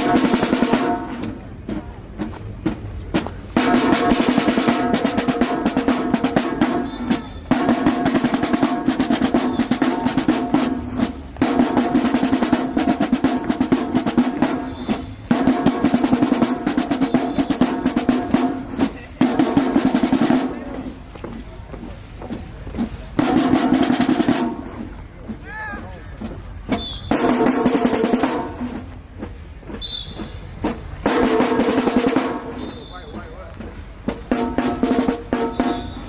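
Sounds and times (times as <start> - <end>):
snare drum rolls: 0.0 - 21.0, 22.2 - 36.0.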